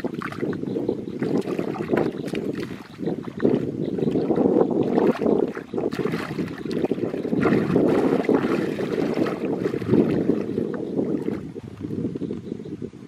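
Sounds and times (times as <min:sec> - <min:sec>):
muddy water sloshing: 0:00.0 - 0:12.0
wind buffeting microphone: 0:00.0 - 0:13.0.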